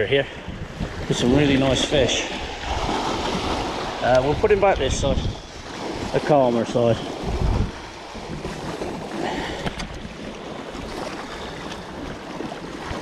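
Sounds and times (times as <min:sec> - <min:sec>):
wind on microphone: 0:00.0 - 0:13.0
waves breaking over rocks: 0:00.4 - 0:13.0.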